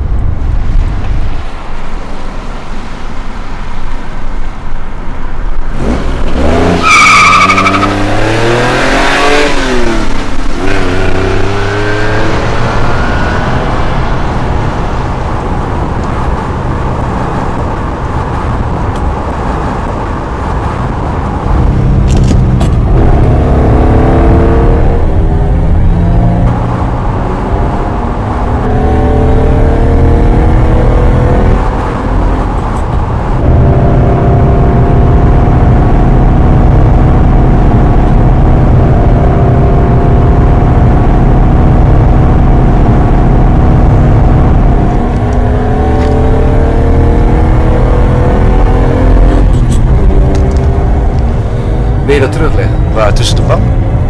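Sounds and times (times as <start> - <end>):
car engine revving: 5.7 - 54.0.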